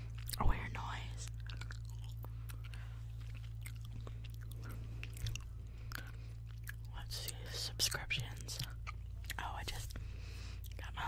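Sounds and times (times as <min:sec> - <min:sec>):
gum chewing wet clicks: 0:00.0 - 0:10.9
low electrical hum: 0:00.0 - 0:11.0.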